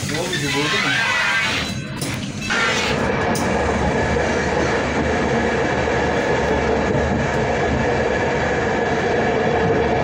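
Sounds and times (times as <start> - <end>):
train running inside carriage: 0.0 - 10.0.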